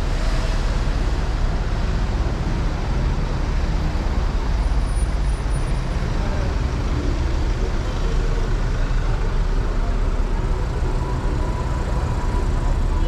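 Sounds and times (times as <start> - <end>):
cars idling in traffic: 0.0 - 13.0.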